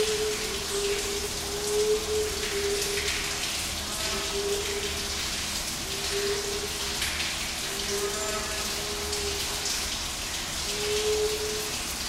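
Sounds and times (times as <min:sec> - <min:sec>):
steady rain-like hiss: 0:00.0 - 0:12.0.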